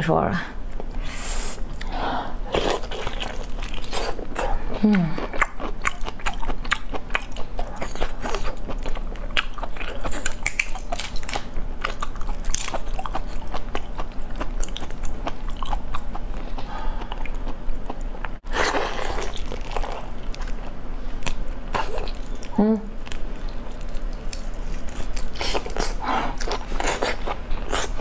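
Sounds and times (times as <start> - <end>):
crunchy chewing of prawn: 2.4 - 28.0.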